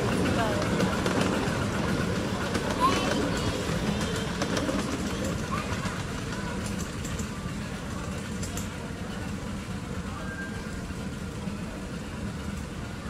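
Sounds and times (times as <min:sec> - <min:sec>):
miniature train rumbling along track: 0:00.0 - 0:13.0.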